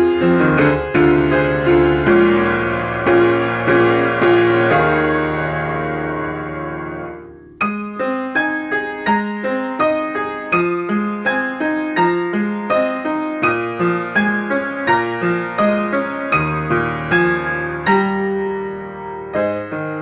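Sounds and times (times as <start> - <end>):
solo piano accompaniment: 0.0 - 20.0.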